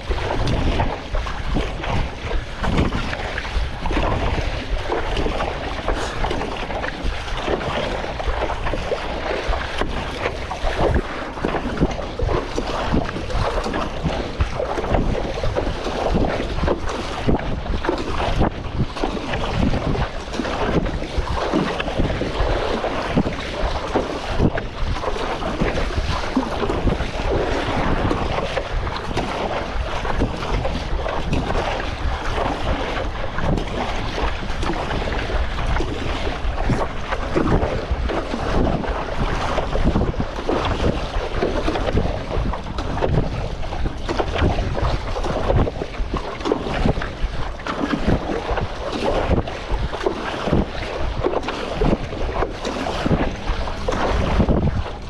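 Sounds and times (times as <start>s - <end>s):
choppy water splashing: 0.0s - 55.0s
wind buffeting microphone: 0.0s - 55.0s.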